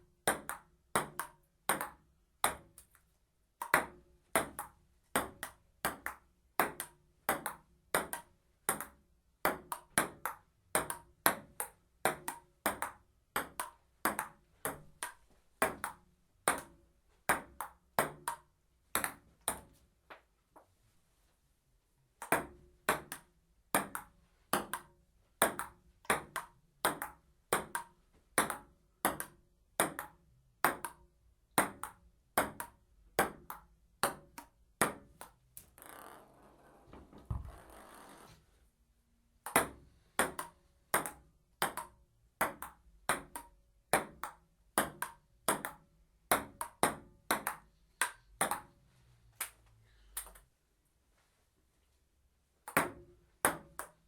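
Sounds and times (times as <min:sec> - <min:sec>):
table tennis ball hits: 0:00.3 - 0:02.8, 0:03.6 - 0:19.8, 0:22.2 - 0:31.0, 0:31.6 - 0:36.4, 0:37.1 - 0:38.1, 0:39.4 - 0:48.8, 0:52.6 - 0:54.0.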